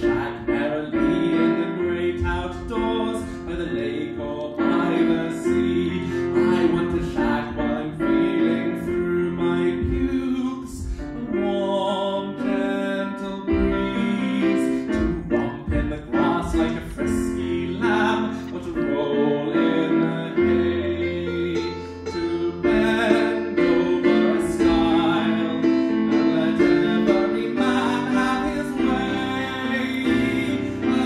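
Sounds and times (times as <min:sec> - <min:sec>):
keyboard accompaniment: 0:00.0 - 0:31.0.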